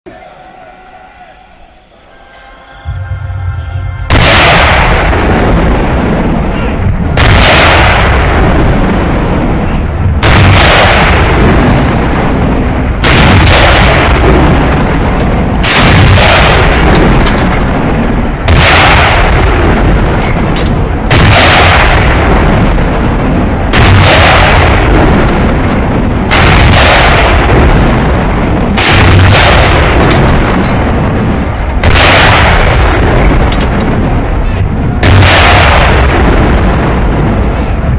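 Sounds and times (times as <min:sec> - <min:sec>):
constant deep rumble: 0:02.9 - 0:37.9
artillery gun blasts: 0:04.1 - 0:37.9.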